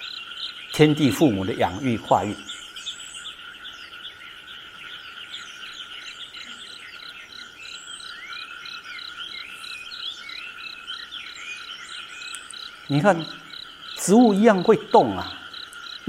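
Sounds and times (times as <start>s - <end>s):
insects and frogs trilling: 0.0s - 16.0s
regular pulsing chirp: 0.0s - 16.0s.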